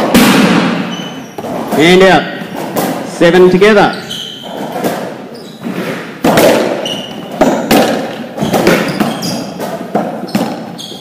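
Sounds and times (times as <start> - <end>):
racquetball hits echoing: 0.0 - 3.4, 4.0 - 11.0
sneaker squeaks on court floor: 0.8 - 3.0, 3.6 - 11.0.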